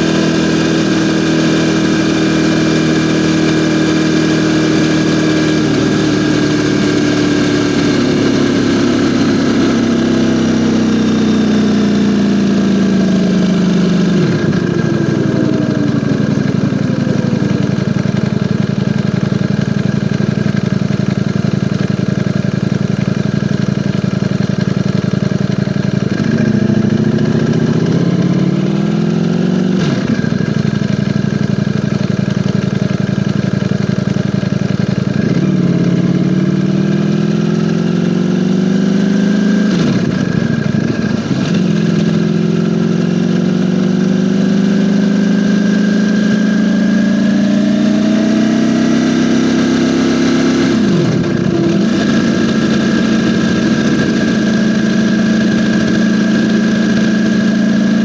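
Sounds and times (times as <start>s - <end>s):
motorcycle engine under way: 0.0s - 58.0s.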